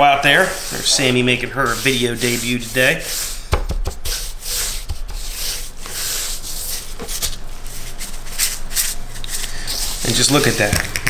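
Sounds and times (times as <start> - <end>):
hand rubbing spice into meat: 0.2 - 10.8.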